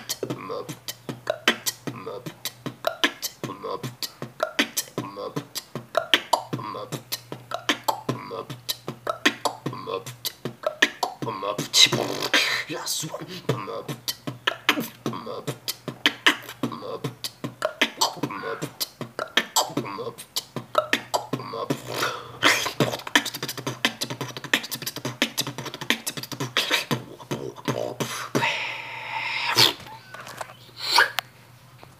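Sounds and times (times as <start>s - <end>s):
person beatboxing: 0.0s - 29.9s
low steady hum: 0.0s - 31.9s.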